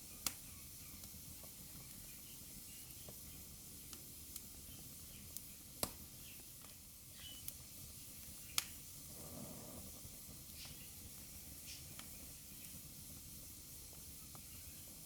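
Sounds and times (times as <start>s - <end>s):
fireplace fire crackling and popping: 0.0s - 15.0s
soft low rush of flame: 0.0s - 15.0s.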